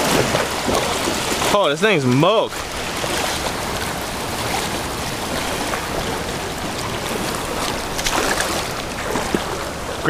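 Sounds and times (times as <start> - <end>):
ocean surf: 0.0 - 10.0.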